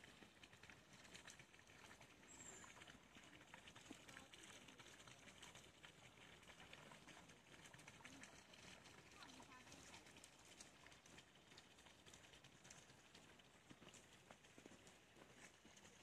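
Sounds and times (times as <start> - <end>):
soft ticks and rustling: 0.0 - 16.0.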